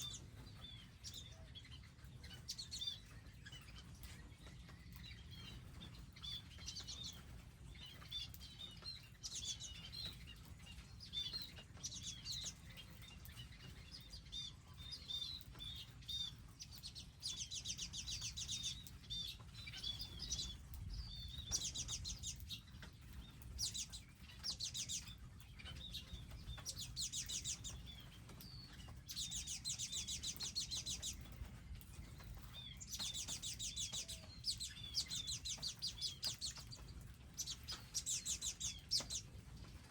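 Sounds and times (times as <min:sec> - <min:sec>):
wild birds chirping: 0:00.0 - 0:39.9.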